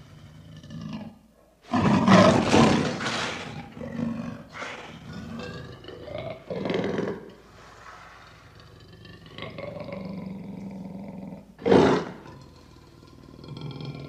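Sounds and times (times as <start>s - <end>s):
lion growling: 0.0s - 14.0s
lion roaring: 0.0s - 14.0s.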